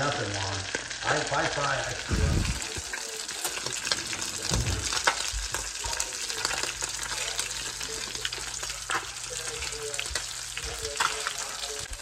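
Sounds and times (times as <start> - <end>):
fish sizzling in oil: 0.0 - 12.0
oil crackles and pops: 0.0 - 12.0.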